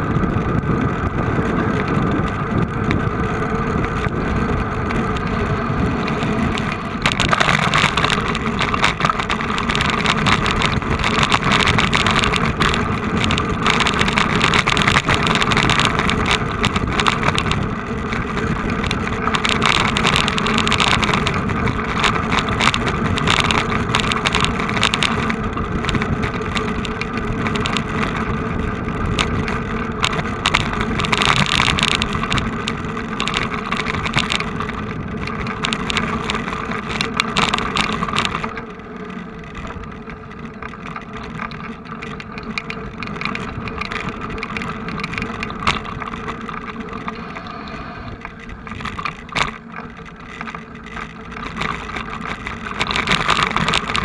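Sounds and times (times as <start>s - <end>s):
road noise: 0.0s - 54.0s
vehicle engine: 0.0s - 54.0s.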